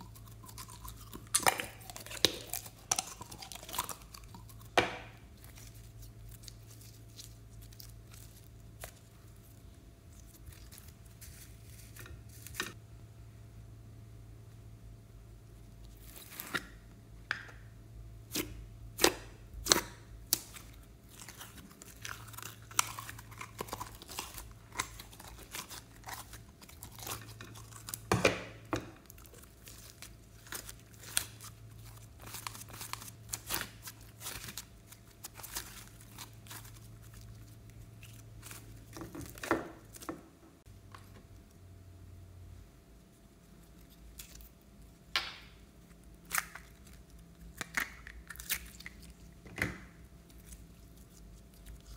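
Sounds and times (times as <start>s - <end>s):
faint low hum: 0.0s - 51.9s.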